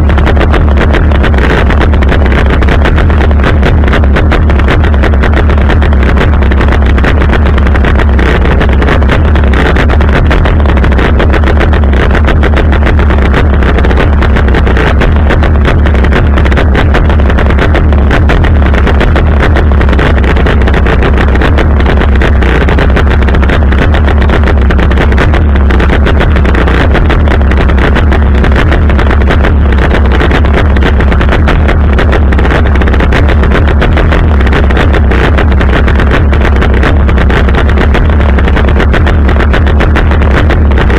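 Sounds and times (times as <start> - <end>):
chainsaw running loud: 0.0 - 40.9.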